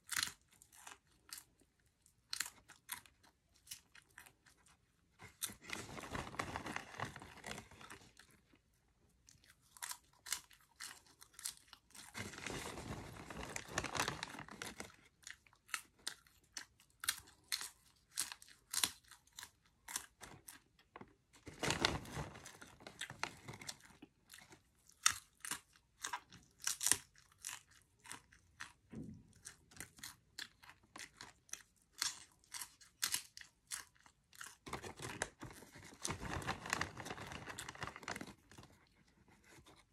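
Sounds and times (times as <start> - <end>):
popcorn being chewed: 0.0 - 39.9.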